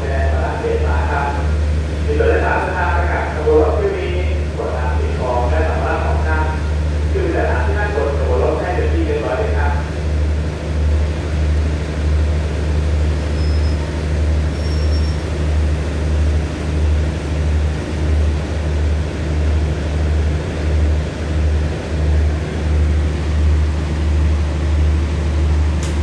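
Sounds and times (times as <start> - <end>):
diesel train engine idling: 0.0 - 26.0.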